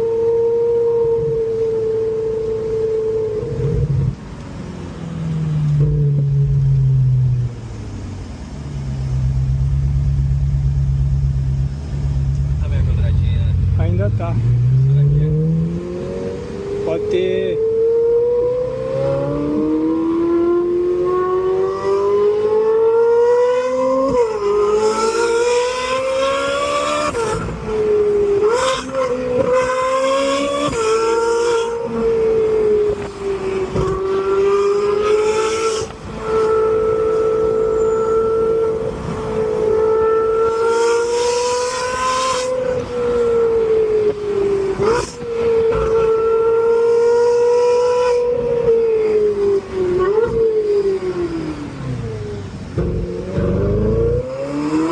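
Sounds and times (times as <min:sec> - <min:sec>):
sports car engine revving: 0:08.7 - 0:54.9.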